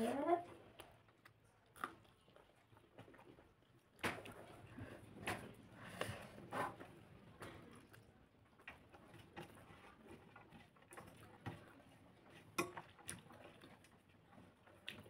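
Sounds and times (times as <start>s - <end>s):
fingers mixing rice on a plate: 0.7s - 15.0s.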